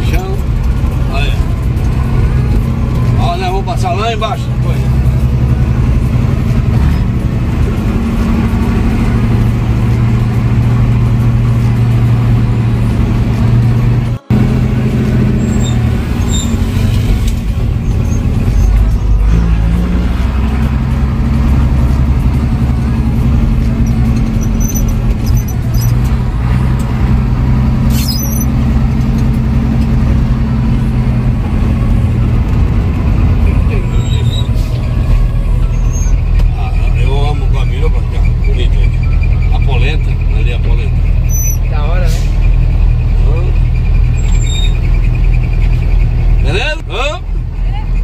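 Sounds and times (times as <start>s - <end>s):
diesel truck engine running: 0.0s - 48.0s.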